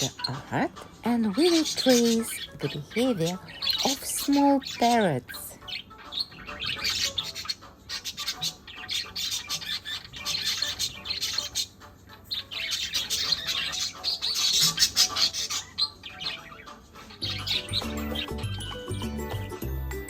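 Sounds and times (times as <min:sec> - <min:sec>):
parrots chattering and squawking: 0:00.0 - 0:19.2.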